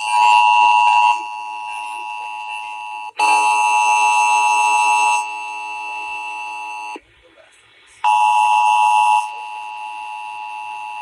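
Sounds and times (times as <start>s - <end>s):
two-tone alarm tone: 0.0s - 7.0s, 8.0s - 11.0s.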